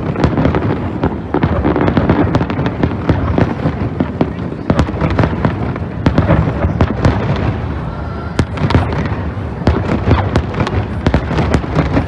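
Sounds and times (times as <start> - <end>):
fireworks bangs and crackling: 0.0 - 12.0
rumble of explosions: 0.0 - 12.0.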